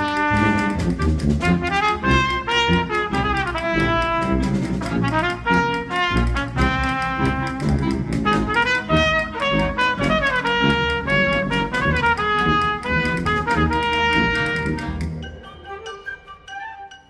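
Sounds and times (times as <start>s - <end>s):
percussion strokes: 0.0s - 17.0s
wind band playing: 0.0s - 17.0s.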